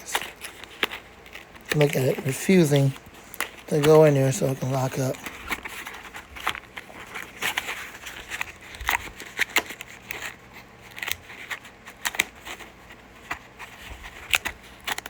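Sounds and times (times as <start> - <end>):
plastic packaging clicks and crinkling: 0.0 - 15.0.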